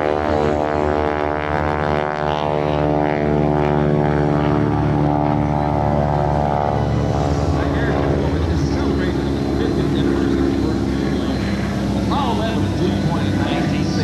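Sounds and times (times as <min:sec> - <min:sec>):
biplane flying past: 0:00.0 - 0:14.0.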